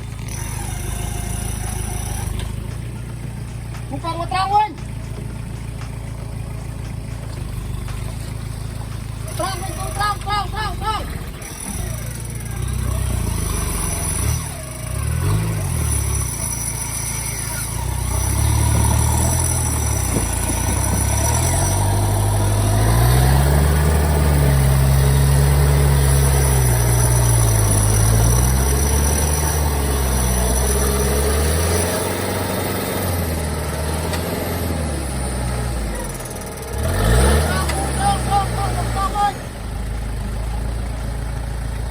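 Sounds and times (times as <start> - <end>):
off-road vehicle engine revving: 0.0 - 41.9.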